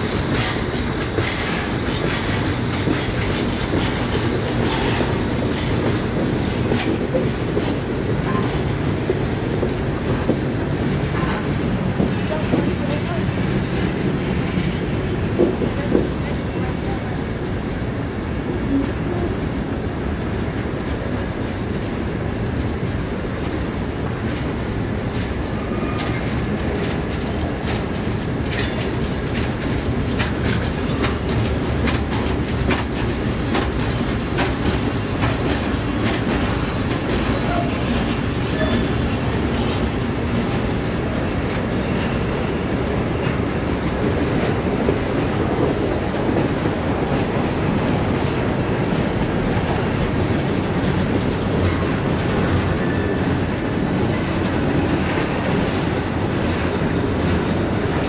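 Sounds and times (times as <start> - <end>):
train wheel clicks and clatter: 0.0 - 16.3, 20.6 - 58.0
steel wheels rumbling on rail: 0.0 - 58.0.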